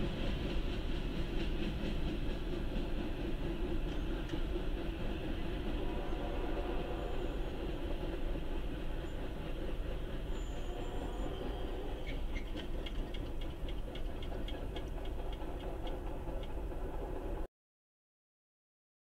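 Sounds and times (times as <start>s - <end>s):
train rumbling: 0.0s - 17.5s.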